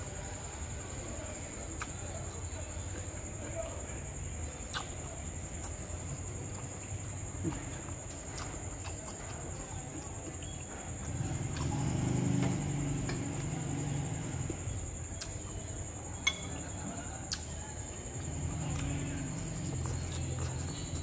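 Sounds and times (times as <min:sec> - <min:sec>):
chewing with closed-mouth hum: 0:01.6 - 0:03.6, 0:04.2 - 0:21.0.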